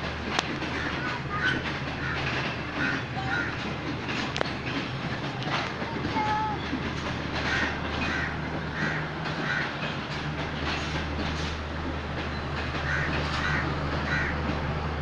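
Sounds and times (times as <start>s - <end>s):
rail clatters: 0.0s - 15.0s
train running past on rails: 0.0s - 15.0s.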